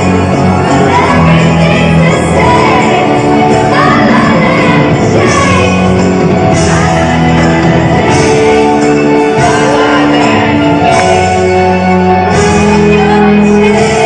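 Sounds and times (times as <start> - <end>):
live pop-rock band playing: 0.0 - 14.0
person singing: 0.0 - 14.0.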